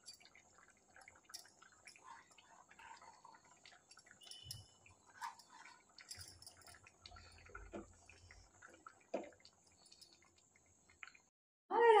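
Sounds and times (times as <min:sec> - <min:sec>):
pan of curry simmering: 0:00.2 - 0:06.0, 0:06.8 - 0:11.2.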